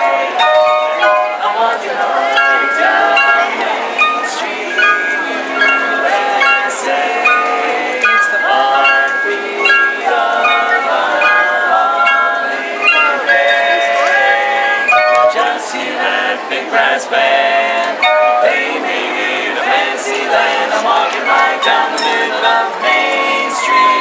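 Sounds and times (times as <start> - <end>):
tuned metal chimes melody: 0.0 - 15.6, 17.9 - 19.4, 20.0 - 24.0.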